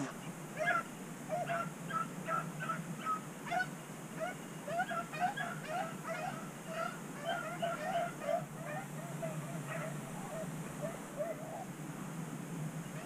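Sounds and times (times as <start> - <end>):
hounds whining and yipping: 0.0 - 11.7.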